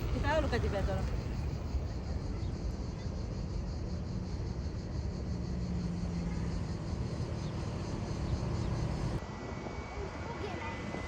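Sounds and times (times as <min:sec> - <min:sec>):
distant aircraft engine rumble: 0:00.0 - 0:11.0.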